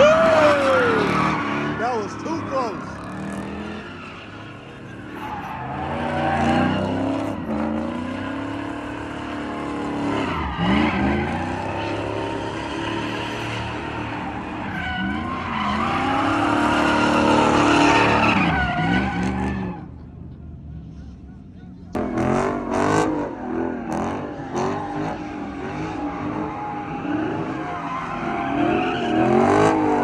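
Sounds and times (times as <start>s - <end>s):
car engine revving: 0.0s - 30.0s
tires screeching: 0.0s - 30.0s.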